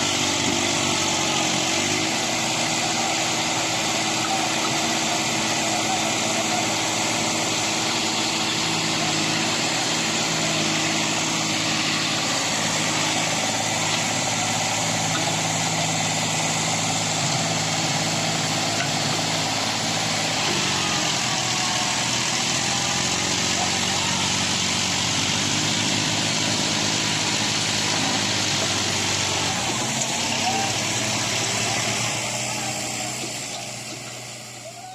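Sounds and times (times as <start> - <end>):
diesel machinery engine running: 0.0 - 34.9.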